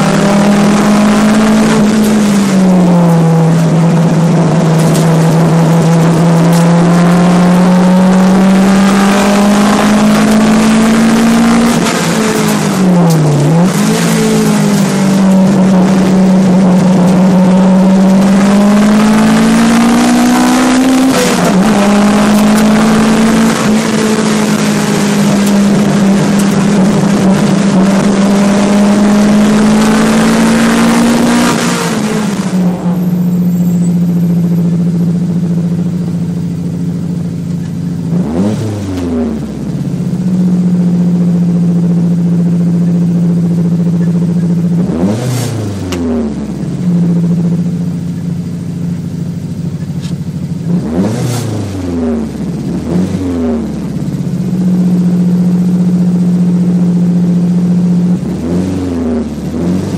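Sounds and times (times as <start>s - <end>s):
car engine revving under load: 0.0s - 59.9s.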